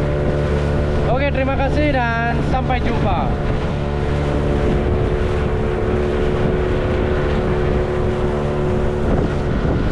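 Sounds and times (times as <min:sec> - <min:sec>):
boat engine running: 0:00.0 - 0:09.9
water noise: 0:00.0 - 0:09.9
wind: 0:00.0 - 0:09.9.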